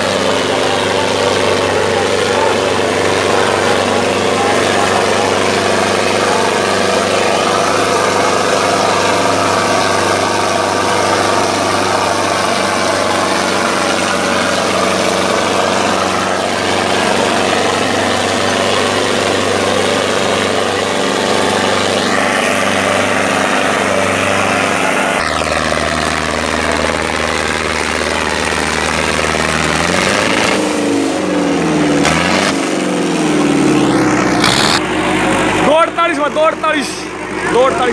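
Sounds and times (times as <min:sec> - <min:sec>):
tractor diesel engine droning: 0:00.0 - 0:37.9.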